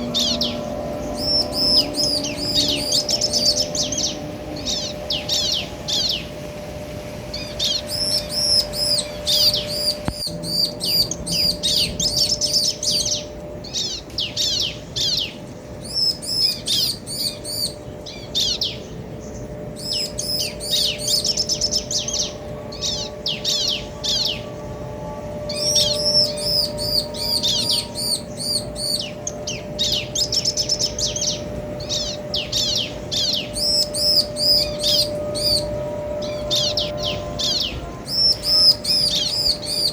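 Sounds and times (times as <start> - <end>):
birds chirping rapidly: 0.0 - 39.9
faint steady hum: 0.0 - 39.9.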